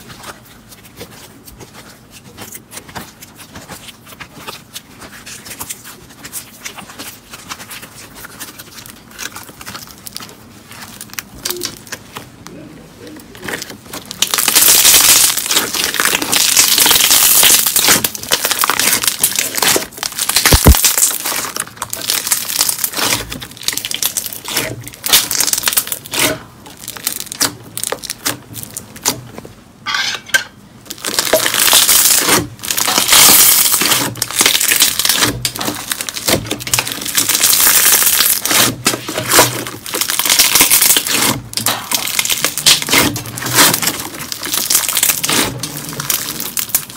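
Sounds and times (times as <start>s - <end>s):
slime crackling and popping: 0.0s - 12.0s, 13.3s - 29.5s, 30.8s - 46.9s.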